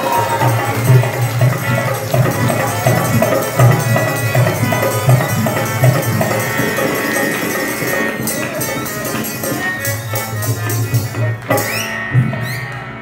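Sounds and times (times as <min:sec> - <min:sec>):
sharp percussive hits: 0:00.0 - 0:12.0
drum beating: 0:00.0 - 0:12.6
folk music: 0:00.0 - 0:13.0.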